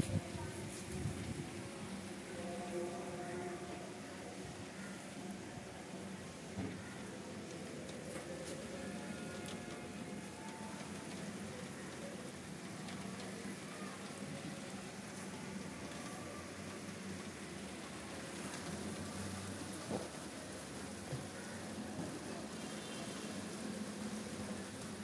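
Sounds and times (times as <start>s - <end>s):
light rain on a concrete roof: 0.0s - 25.0s.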